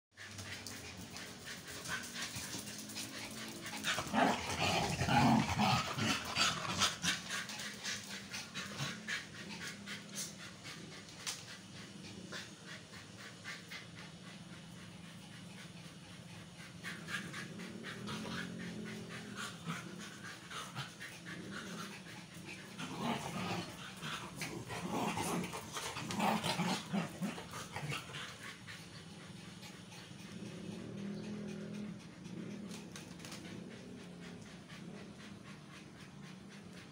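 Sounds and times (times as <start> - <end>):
dog panting: 0.2 - 36.9.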